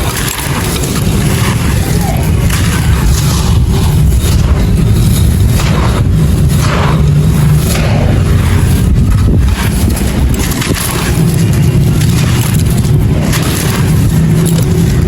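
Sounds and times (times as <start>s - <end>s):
clay pot crunching and crackling: 0.0s - 15.0s
heavy low rumble: 0.0s - 15.0s.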